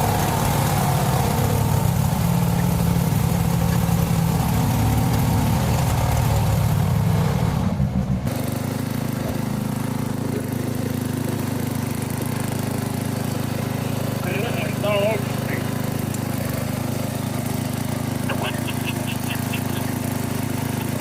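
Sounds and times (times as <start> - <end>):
lawn tractor engine running: 0.0 - 21.0.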